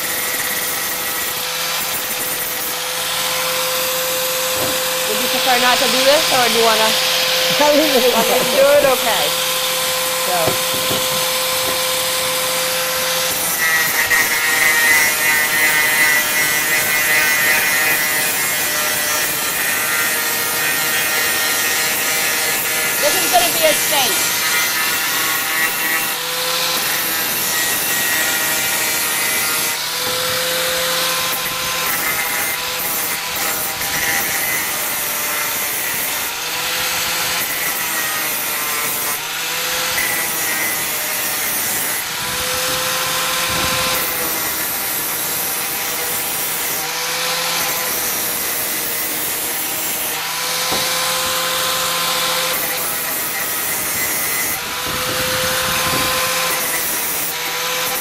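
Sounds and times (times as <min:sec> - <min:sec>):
angle grinder grinding metal: 0:00.0 - 0:58.0.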